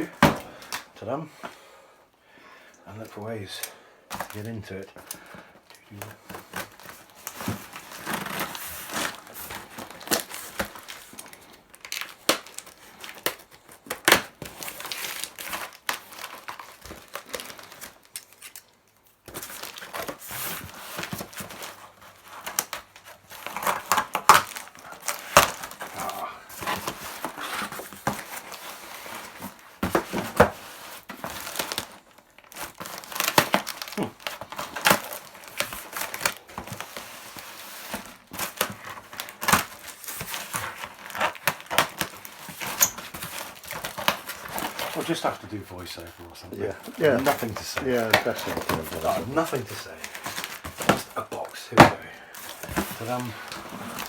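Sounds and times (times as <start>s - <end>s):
wrapping crinkling and rustling: 2.9s - 54.0s
packing tape and cardboard tearing: 3.5s - 54.0s.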